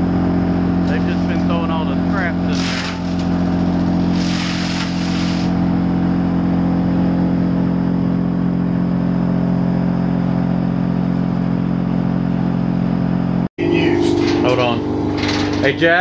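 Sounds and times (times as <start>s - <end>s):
sawmill machinery humming: 0.0s - 10.6s, 11.7s - 16.0s.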